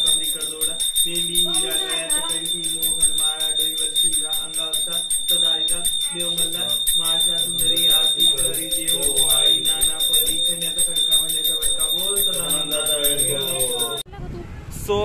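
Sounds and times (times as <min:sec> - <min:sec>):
hand bell ringing rapidly: 0:00.0 - 0:14.0
voices singing devotional song: 0:00.0 - 0:14.1.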